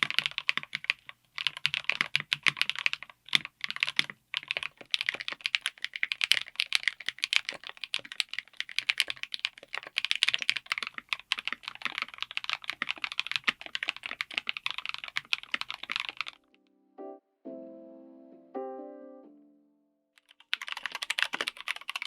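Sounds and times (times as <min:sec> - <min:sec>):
mechanical keyboard typing: 0:00.0 - 0:16.4, 0:20.2 - 0:22.0.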